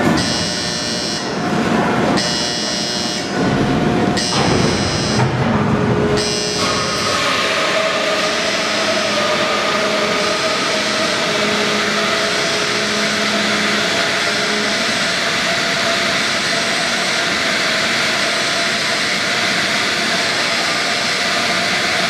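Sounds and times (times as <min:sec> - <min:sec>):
elevator machinery rushing: 0:00.0 - 0:22.0.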